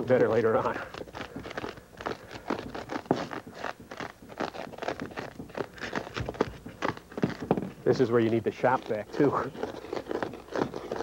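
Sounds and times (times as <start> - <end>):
blade scraping polystyrene foam: 0.0 - 11.0.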